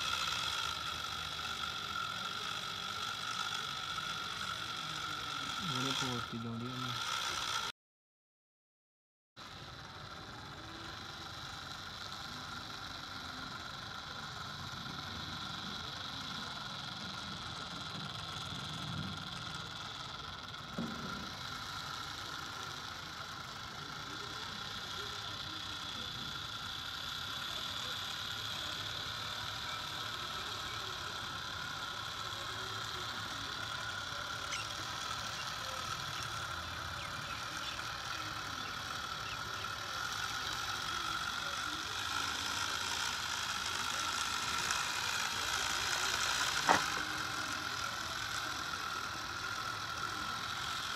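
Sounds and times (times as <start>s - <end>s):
toy electric motors whining: 0.0s - 7.7s, 9.4s - 50.9s.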